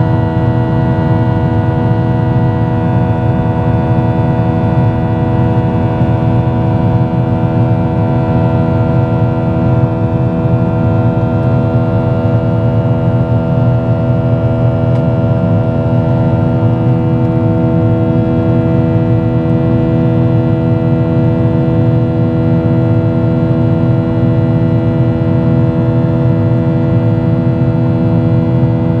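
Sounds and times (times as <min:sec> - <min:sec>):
airplane cabin rumble: 0:00.0 - 0:29.0
steady engine tones: 0:00.0 - 0:29.0.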